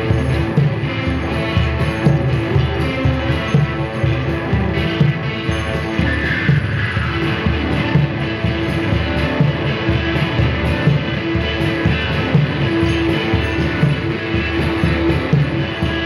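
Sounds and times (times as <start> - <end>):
droning electric guitar: 0.0 - 16.0
percussion beat: 0.0 - 16.0.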